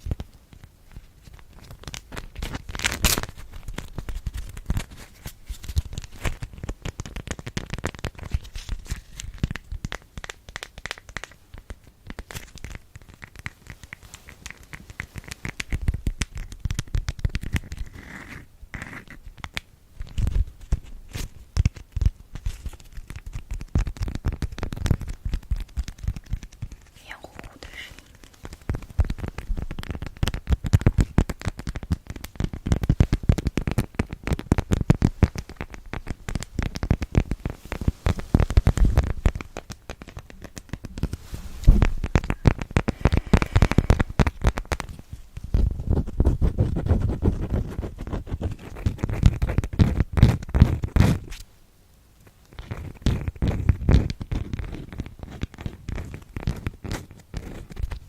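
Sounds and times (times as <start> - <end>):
nail scratching on props: 0.0 - 51.4, 52.5 - 58.0.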